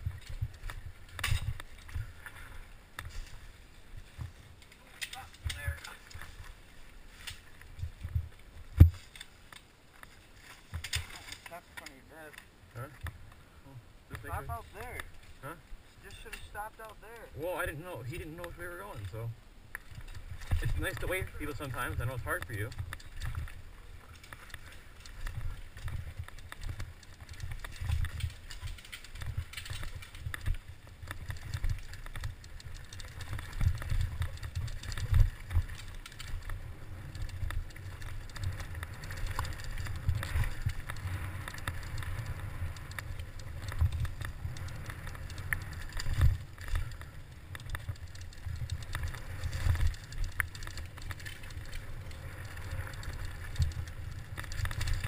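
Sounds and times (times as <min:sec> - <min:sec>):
bike knocking and rattling: 0:00.0 - 0:13.3, 0:14.1 - 0:55.0
rumble of bike tyres and wind: 0:00.0 - 0:55.0.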